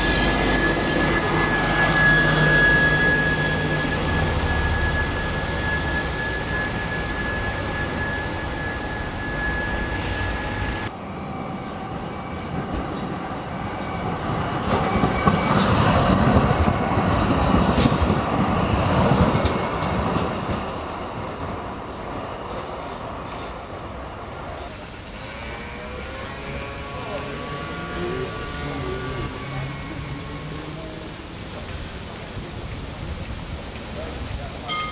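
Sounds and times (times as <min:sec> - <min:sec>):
tram wheels rumbling on rails: 0:00.0 - 0:34.9
trolleybus high whine: 0:00.0 - 0:34.9.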